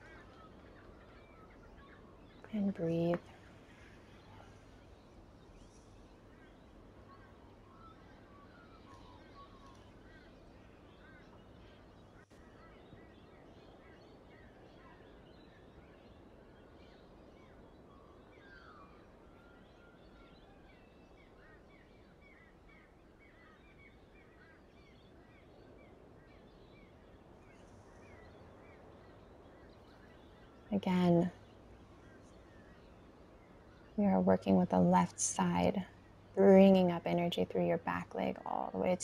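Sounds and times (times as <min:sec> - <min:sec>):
faint birdsong chirps: 0:00.0 - 0:39.0
low background hiss: 0:00.0 - 0:39.0.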